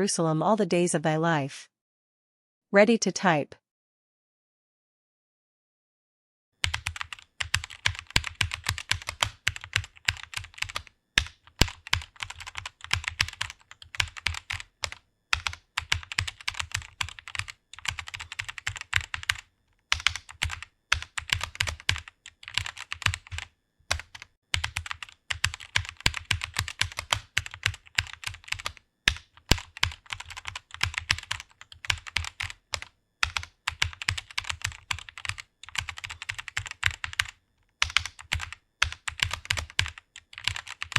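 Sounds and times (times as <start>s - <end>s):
typing on computer keyboard: 6.6s - 40.9s.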